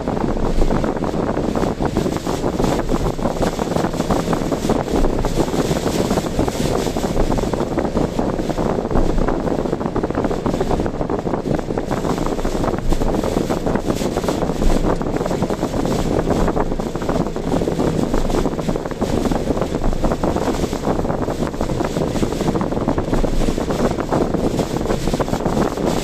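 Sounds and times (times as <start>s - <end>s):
wind and road noise: 0.0s - 26.0s.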